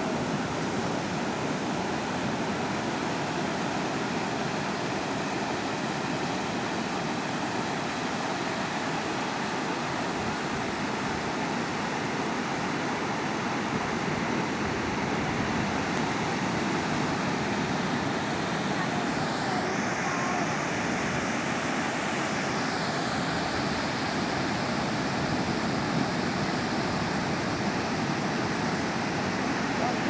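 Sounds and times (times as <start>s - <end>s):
waves breaking on beach: 0.0s - 30.0s.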